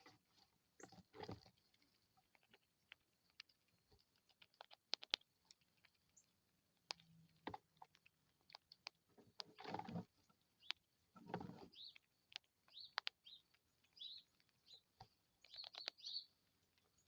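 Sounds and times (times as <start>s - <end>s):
small animal feeding crunches: 0.0s - 17.0s.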